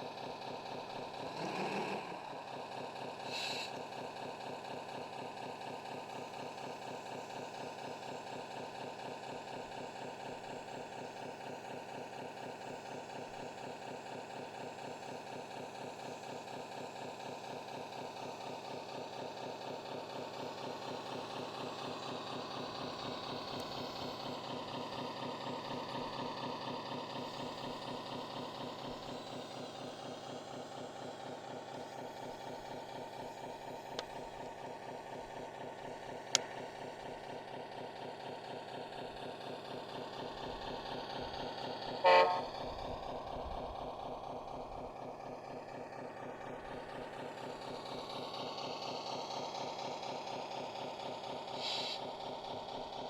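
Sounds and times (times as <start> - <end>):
model truck engine idling: 0.0 - 53.0.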